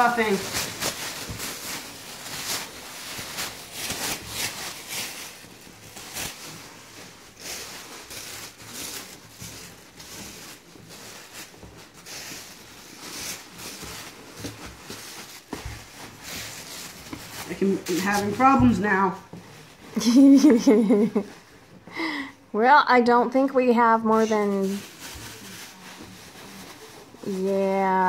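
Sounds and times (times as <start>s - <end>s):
plastic bags rustling: 0.0s - 22.5s, 23.7s - 28.0s.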